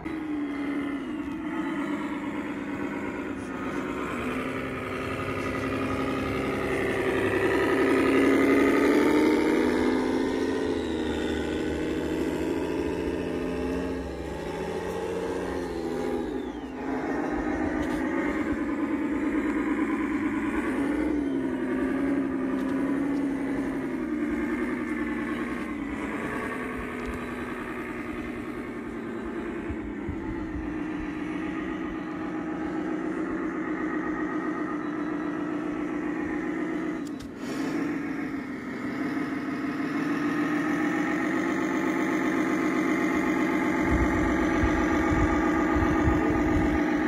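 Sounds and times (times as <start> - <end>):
simulated truck engine idling: 0.0 - 47.0.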